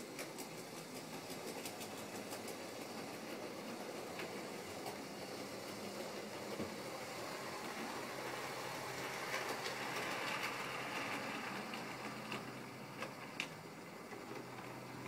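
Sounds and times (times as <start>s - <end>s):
model train motor hum: 0.0s - 15.0s
wheels on rails: 0.0s - 15.0s.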